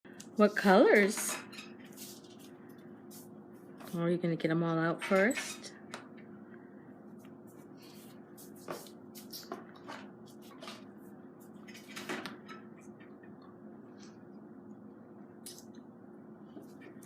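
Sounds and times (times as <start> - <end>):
faint steady hum: 0.1 - 17.0.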